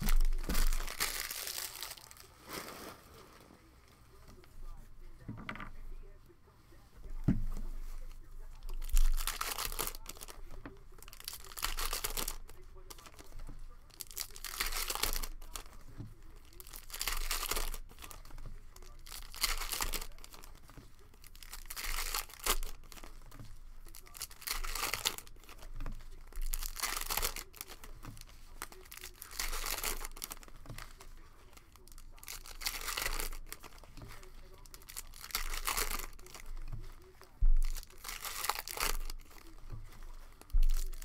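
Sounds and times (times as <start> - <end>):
plastic wrappers crinkling and tearing: 0.0 - 6.1, 7.1 - 41.0.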